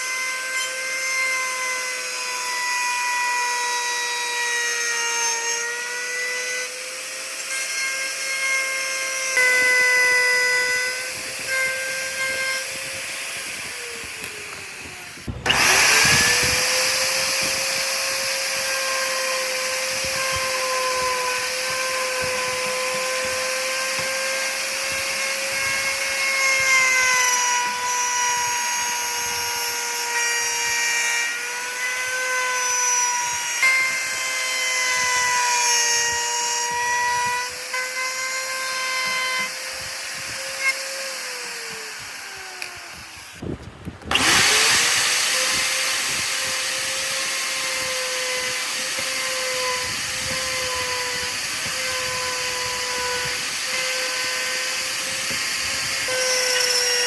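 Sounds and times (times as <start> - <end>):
electric power tool whining: 0.0 - 57.0.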